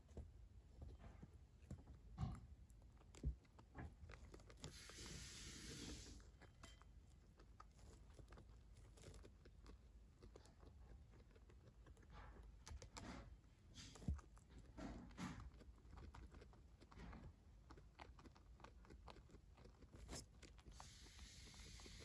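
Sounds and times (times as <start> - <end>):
guinea pig chewing pellets: 0.0 - 22.0
soft rustle: 0.0 - 22.0.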